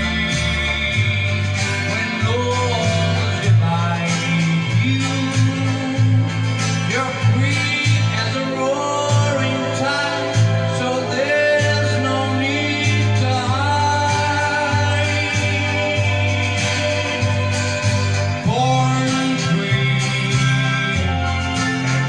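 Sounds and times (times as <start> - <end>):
guitar: 0.0 - 22.0
person singing slow melody: 0.0 - 22.0.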